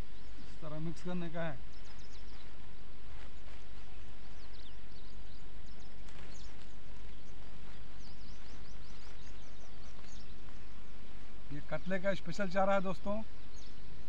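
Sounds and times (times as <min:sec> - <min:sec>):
outdoor background noise: 0:00.0 - 0:14.0
small birds chirping: 0:00.0 - 0:14.0.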